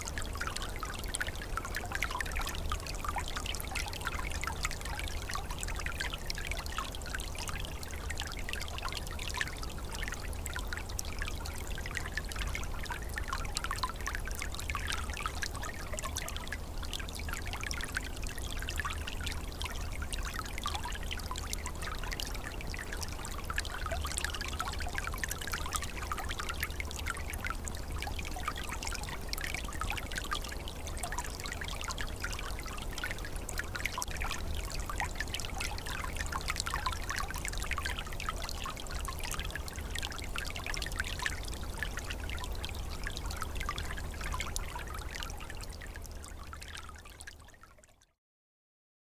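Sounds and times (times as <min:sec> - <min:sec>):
stream trickling and gurgling: 0:00.0 - 0:48.2.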